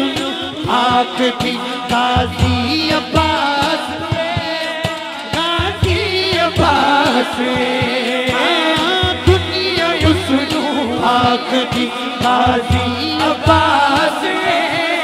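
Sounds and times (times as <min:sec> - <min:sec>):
man singing: 0:00.0 - 0:15.0
quick hand-drum beat: 0:00.0 - 0:15.0.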